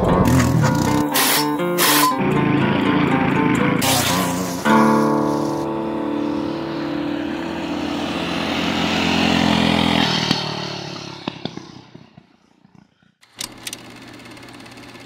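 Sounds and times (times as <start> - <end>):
small engines revving high: 0.2 - 15.0.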